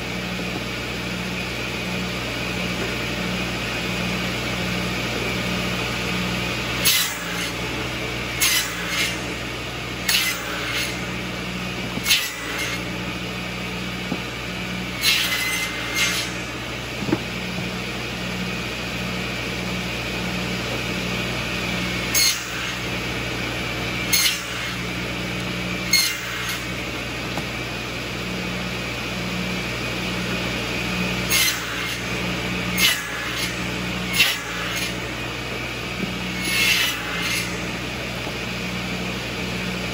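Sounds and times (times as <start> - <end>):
buzz saw running: 0.0 - 39.9
saw cutting firewood: 0.0 - 39.9.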